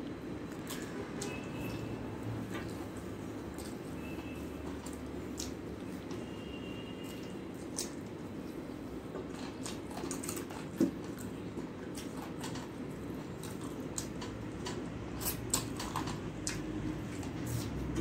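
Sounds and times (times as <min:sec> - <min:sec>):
mouth chewing and smacking: 0:02.6 - 0:06.2, 0:07.0 - 0:18.0.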